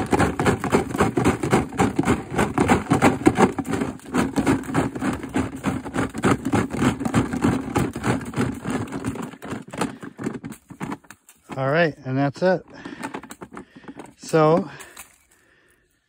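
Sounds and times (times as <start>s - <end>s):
golf balls rattling in plastic container: 0.0s - 15.5s.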